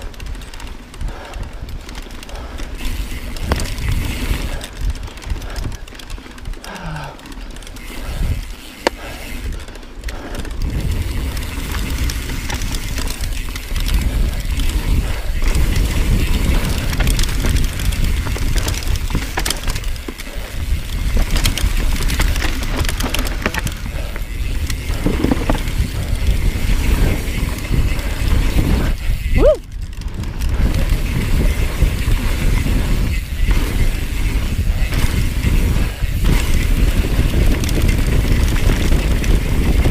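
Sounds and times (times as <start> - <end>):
bike clicks and rattles: 0.0 - 39.9
bike tyres rolling on dirt: 0.0 - 39.9
wind rumbling on microphone: 0.0 - 39.9.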